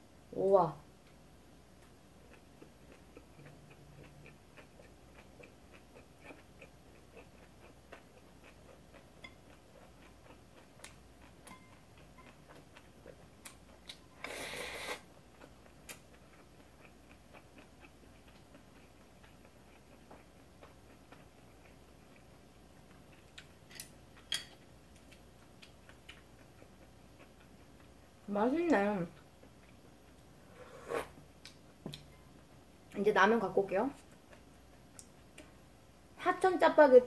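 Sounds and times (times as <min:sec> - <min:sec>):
faint chewing clicks and smacks: 0:01.0 - 0:14.1, 0:15.1 - 0:30.4, 0:31.3 - 0:33.1, 0:33.9 - 0:35.6.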